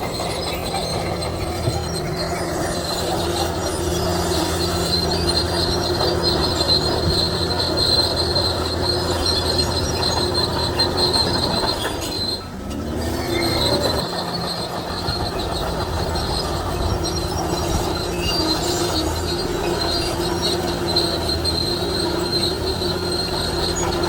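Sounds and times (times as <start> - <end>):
bulldozer diesel engine: 0.0 - 24.0
steel tracks squealing: 0.0 - 24.0.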